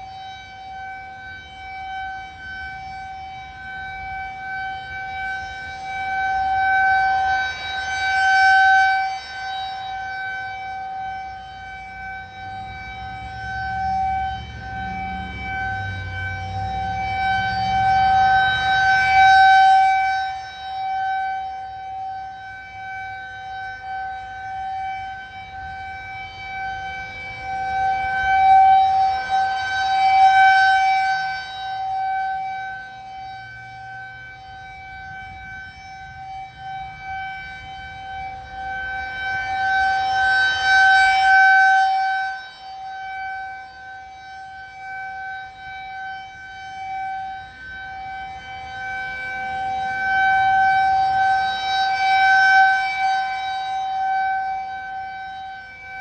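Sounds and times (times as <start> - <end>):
warning siren steady high tone: 0.0 - 56.0.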